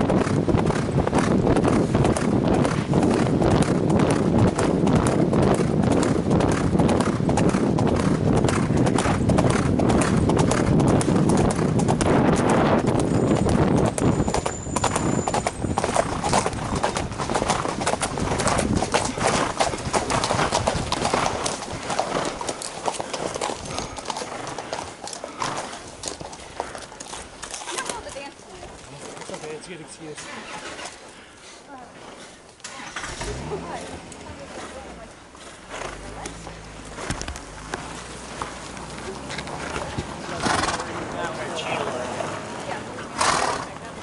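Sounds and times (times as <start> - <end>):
horse hooves on gravel: 0.0 - 31.2, 31.8 - 42.0.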